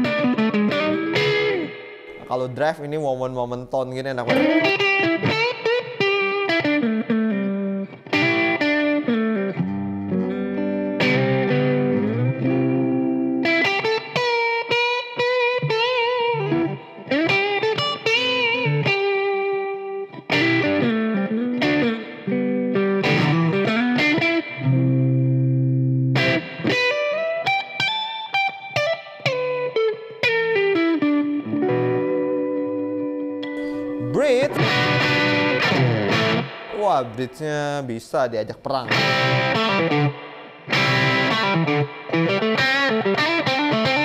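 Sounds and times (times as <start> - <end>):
overdriven electric guitar: 0.0 - 2.4, 4.2 - 36.8, 38.9 - 44.0.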